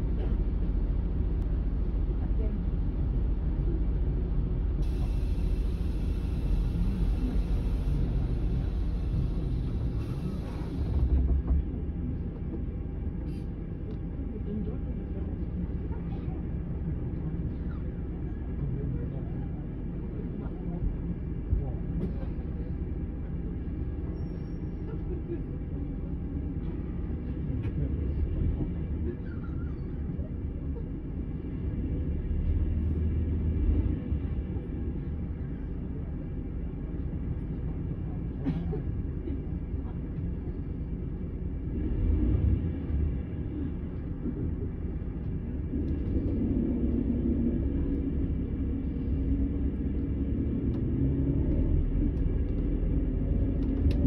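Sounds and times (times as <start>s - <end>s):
diesel coach engine rumbling: 0.0s - 54.0s.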